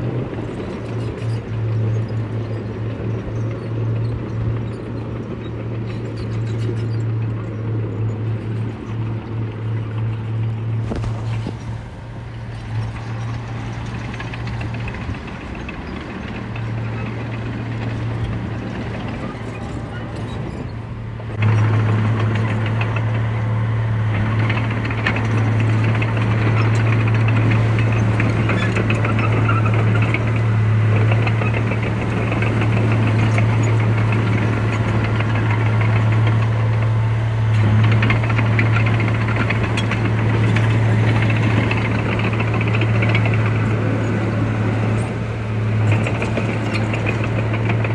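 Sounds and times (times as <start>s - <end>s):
diesel construction machinery drone: 0.0s - 47.9s.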